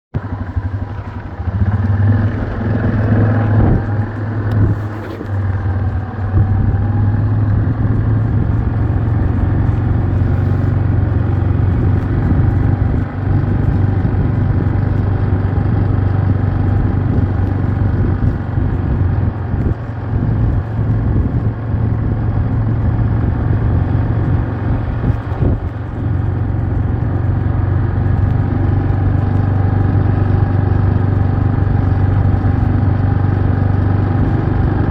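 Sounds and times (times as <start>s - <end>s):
vehicle engine droning: 0.2s - 34.9s.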